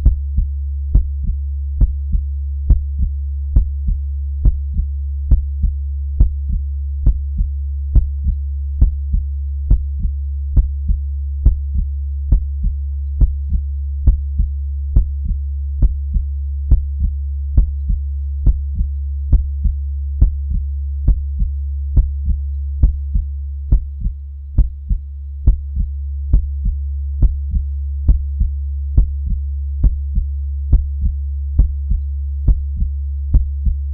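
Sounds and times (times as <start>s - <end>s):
heartbeat lub-dub: 0.0s - 33.9s
steady low hum: 0.0s - 33.9s.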